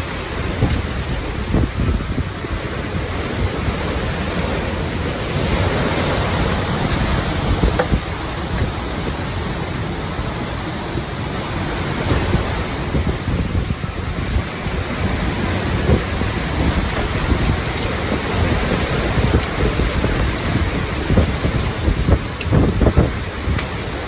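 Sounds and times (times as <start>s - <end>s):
heavy rain: 0.0s - 24.0s
hurricane wind: 0.0s - 24.0s
wind buffeting microphone: 0.0s - 24.0s.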